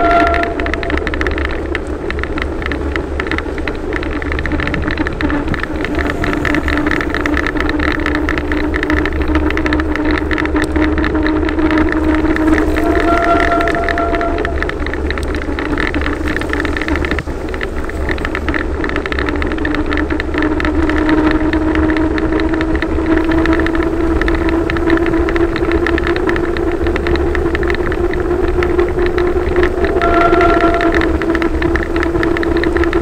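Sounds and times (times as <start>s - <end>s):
bicycle wind rush and rolling: 0.0s - 33.0s
small ticks: 0.0s - 33.0s.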